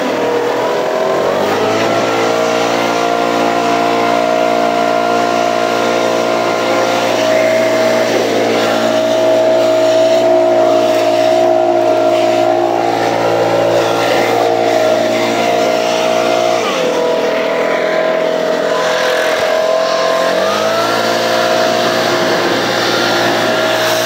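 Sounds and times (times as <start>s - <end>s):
gas leaf blower running: 0.0s - 24.0s.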